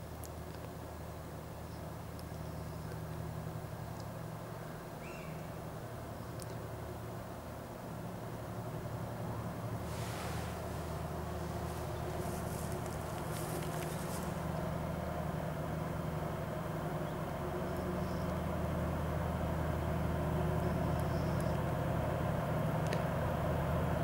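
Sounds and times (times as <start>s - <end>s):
diesel locomotive engines droning: 0.7s - 24.0s.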